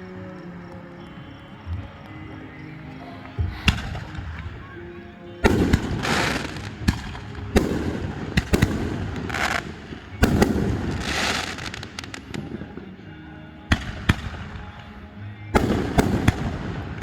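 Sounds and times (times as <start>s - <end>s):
small fireworks pops: 0.0s - 13.0s, 13.7s - 17.0s
fireworks bursting: 0.0s - 17.0s
fireworks crackling: 0.0s - 17.0s.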